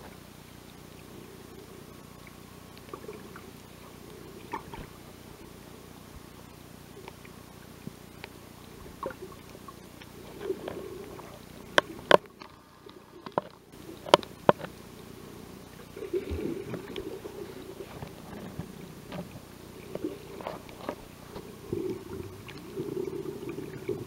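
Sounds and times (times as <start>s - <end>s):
muffled underwater water washing: 0.0s - 24.0s.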